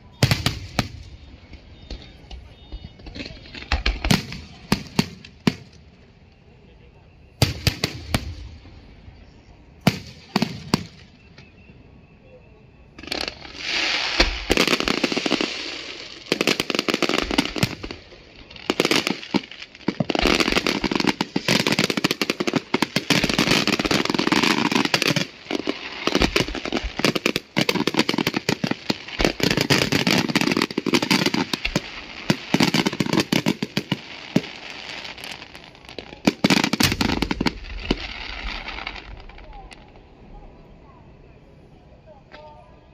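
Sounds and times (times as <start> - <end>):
firework crackling: 0.0 - 6.2, 7.4 - 9.0, 9.8 - 11.3, 13.0 - 40.2
firework bangs: 0.1 - 5.8, 7.4 - 8.7, 9.8 - 11.3, 13.0 - 39.9.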